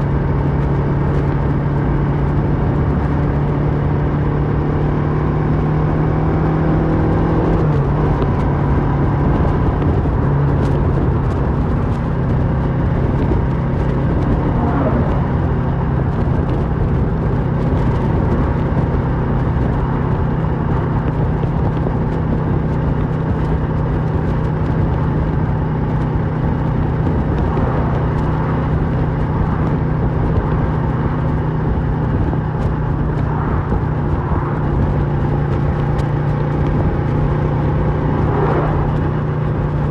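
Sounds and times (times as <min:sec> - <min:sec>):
motorcycle engine riding: 0:00.0 - 0:39.9
rush of wind noise: 0:00.0 - 0:39.9.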